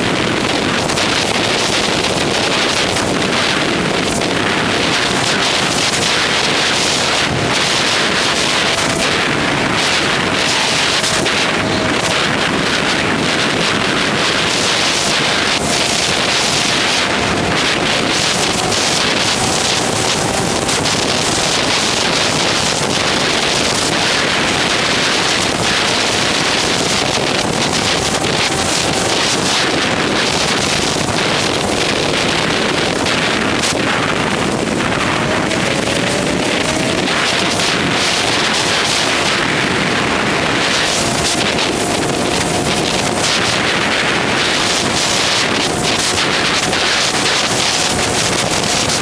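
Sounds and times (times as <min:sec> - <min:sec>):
wind roar: 0:00.0 - 0:49.0.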